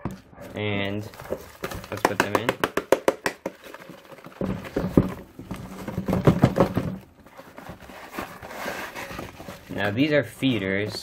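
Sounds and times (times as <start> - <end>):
cardboard box rattling and knocking: 0.0 - 11.0.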